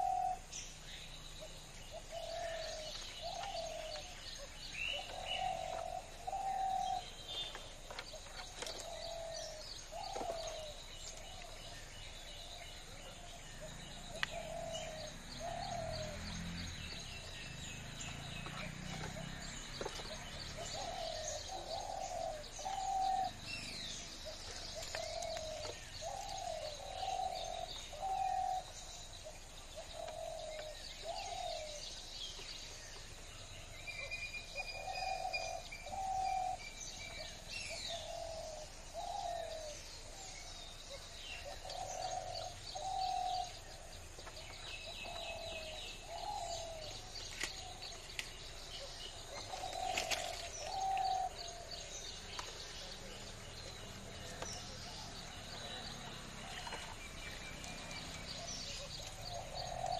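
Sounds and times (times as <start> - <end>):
birds chirping and twittering: 0.0 - 59.9.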